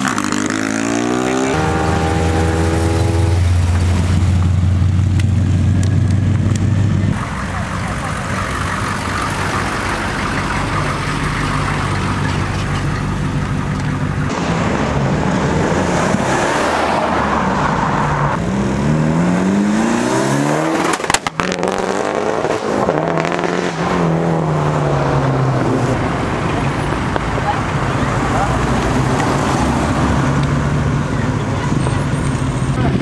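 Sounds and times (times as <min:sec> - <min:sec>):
cars accelerating: 0:00.0 - 0:33.0
van engine humming: 0:01.0 - 0:33.0.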